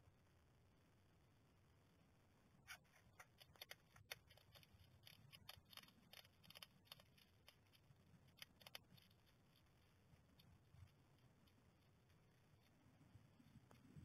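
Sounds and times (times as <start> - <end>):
hedgehog crunching dry food: 2.7 - 14.0.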